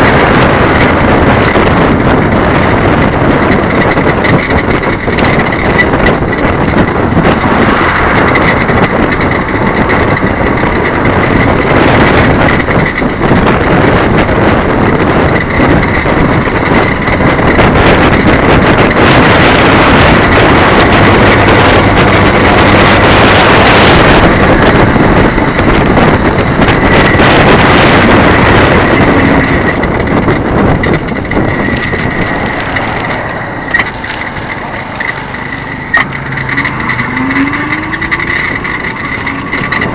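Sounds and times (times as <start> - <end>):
road noise: 0.0 - 39.9
steady high whine: 0.0 - 39.9
wind rushing over microphone: 0.0 - 39.9.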